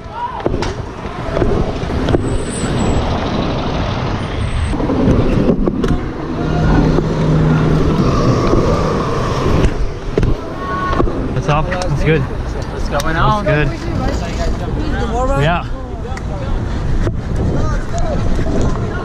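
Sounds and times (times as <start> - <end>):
wind rush on microphone: 0.0 - 15.6, 16.2 - 19.0
city street traffic: 0.0 - 19.0
wheels rolling on asphalt: 0.0 - 19.0.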